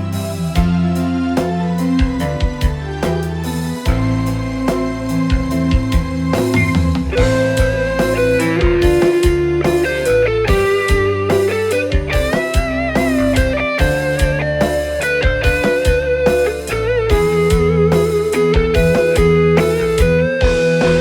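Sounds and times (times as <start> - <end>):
electric guitar melody: 0.0 - 21.0
live band playing: 0.0 - 21.0
drum beat: 0.6 - 21.0.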